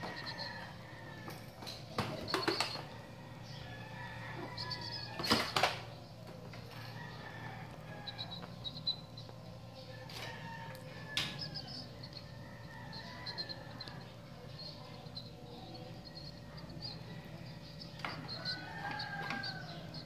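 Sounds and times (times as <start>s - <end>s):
faint steady high tones: 0.0s - 20.0s.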